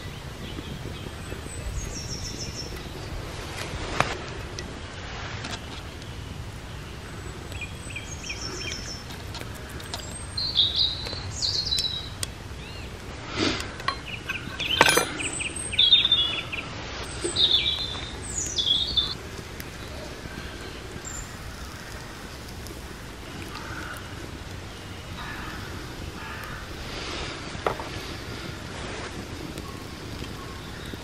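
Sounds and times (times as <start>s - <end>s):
songbirds singing: 0.0s - 3.6s, 4.6s - 31.0s
outdoor background noise: 0.0s - 31.0s.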